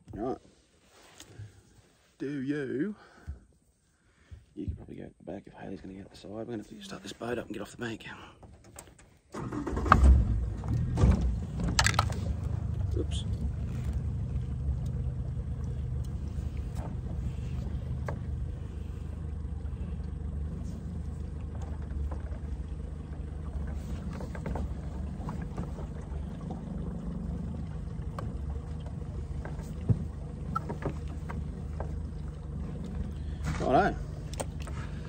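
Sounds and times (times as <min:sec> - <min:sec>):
outboard motor humming: 0:05.9 - 0:35.0.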